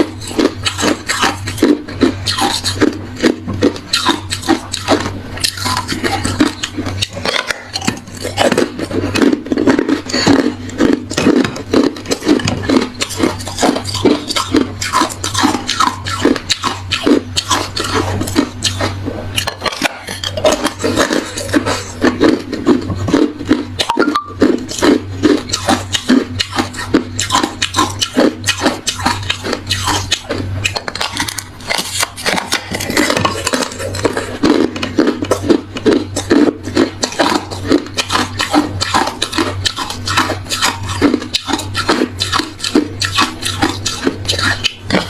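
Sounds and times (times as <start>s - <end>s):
ice being chewed: 0.0s - 45.0s
steady low hum: 0.0s - 45.0s.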